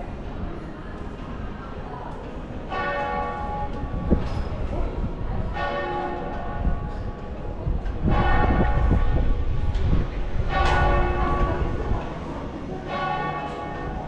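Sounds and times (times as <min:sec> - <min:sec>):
church bell tolling: 0:02.6 - 0:14.0.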